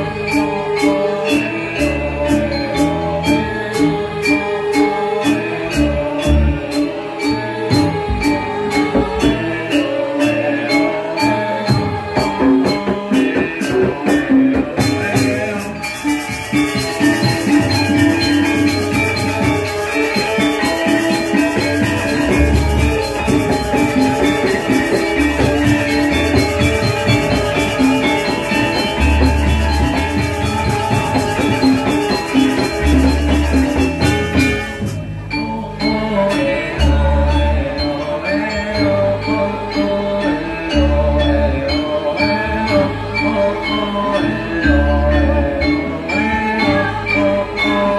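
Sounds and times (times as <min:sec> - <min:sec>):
drums: 0:00.0 - 0:38.9
metallophones ringing: 0:00.0 - 0:47.9.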